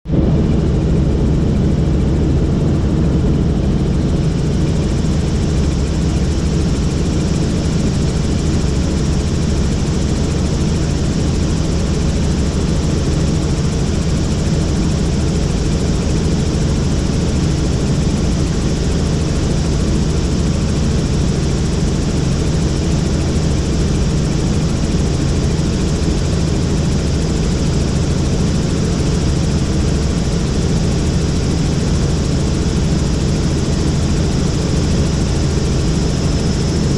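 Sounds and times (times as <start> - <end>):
helicopter rotor and engine: 0.1 - 36.9.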